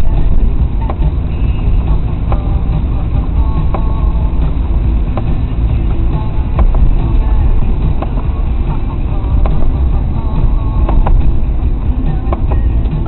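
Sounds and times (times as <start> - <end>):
engine and tyres on wet road: 0.0 - 13.0.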